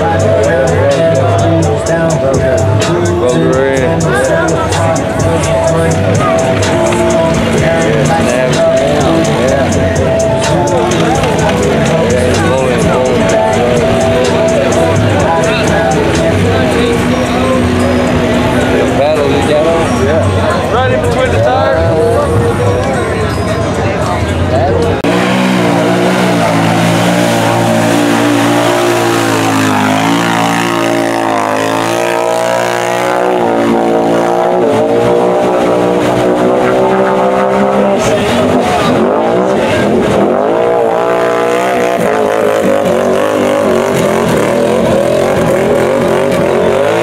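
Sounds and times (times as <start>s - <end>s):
atv engine revving: 0.0s - 22.9s, 23.6s - 47.0s.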